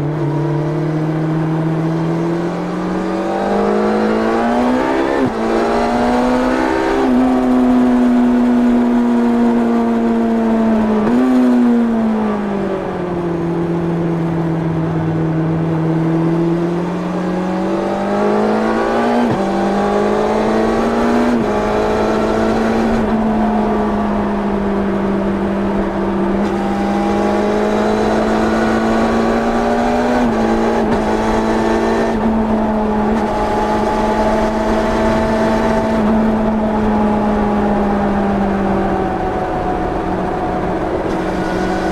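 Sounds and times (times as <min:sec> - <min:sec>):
motorcycle engine revving: 0:00.0 - 0:12.2, 0:14.7 - 0:41.9.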